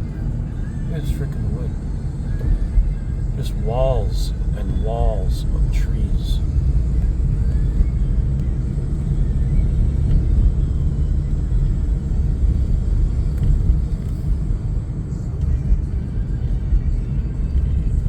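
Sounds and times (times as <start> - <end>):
car interior road and engine noise: 0.0 - 18.0.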